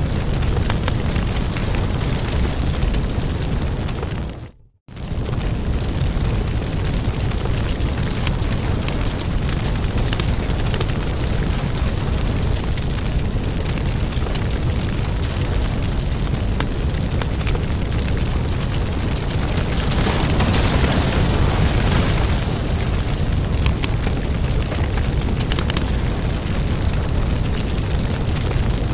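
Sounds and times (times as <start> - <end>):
wood fire crackling and popping: 0.0 - 28.9.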